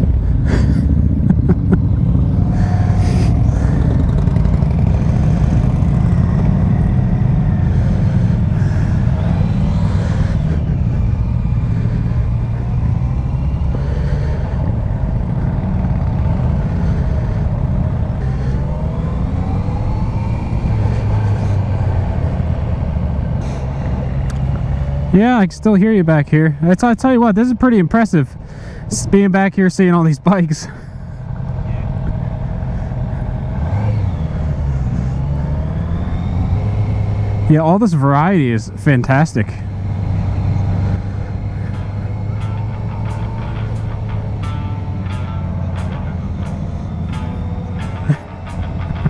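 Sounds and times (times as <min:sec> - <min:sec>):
motorcycle engines rumbling: 0:00.0 - 0:49.0.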